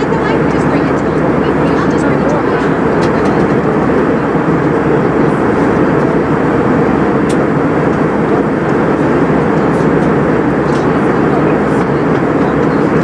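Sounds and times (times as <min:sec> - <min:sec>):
airliner cabin engine noise: 0:00.0 - 0:13.0.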